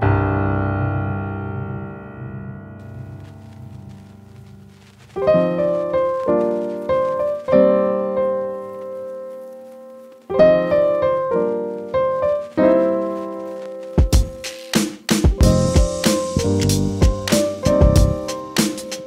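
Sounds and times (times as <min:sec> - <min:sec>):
piano chords: 0:00.0 - 0:14.5, 0:15.3 - 0:19.0.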